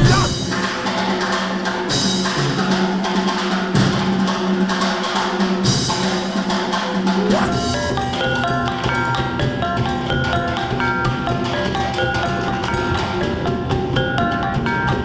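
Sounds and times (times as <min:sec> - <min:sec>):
drum ensemble playing fast: 0:00.0 - 0:15.0.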